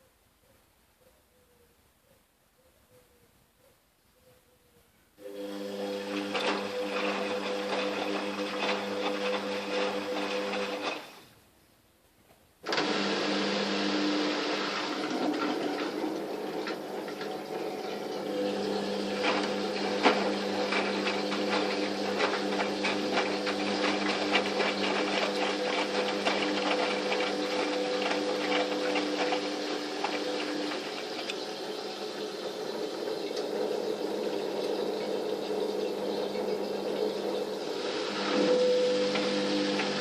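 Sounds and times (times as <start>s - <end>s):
washing machine motor humming: 5.2s - 11.2s, 12.6s - 40.0s.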